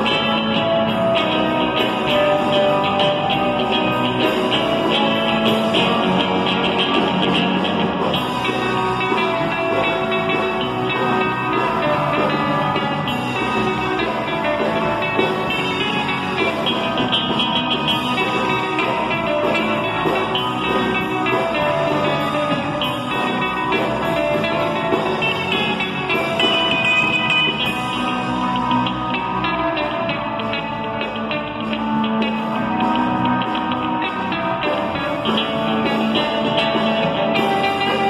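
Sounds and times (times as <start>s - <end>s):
electric bass: 0.0s - 38.0s
electric guitars playing surf rock: 0.0s - 38.0s.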